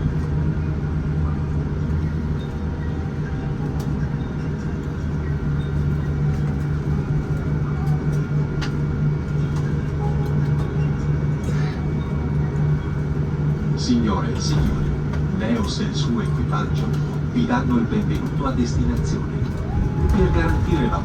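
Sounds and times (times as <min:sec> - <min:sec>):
aircraft cabin hum and rumble: 0:00.0 - 0:21.0.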